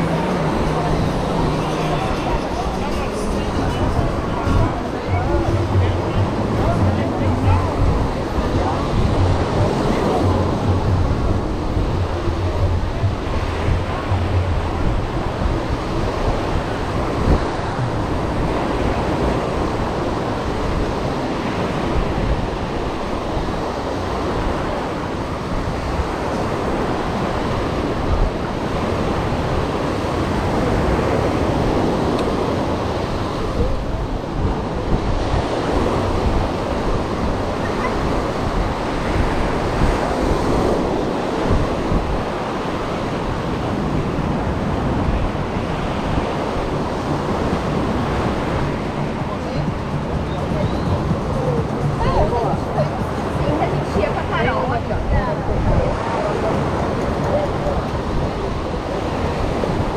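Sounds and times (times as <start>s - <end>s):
ocean surf washing onto beach: 0.0s - 59.9s
wind buffeting microphone: 0.0s - 59.9s.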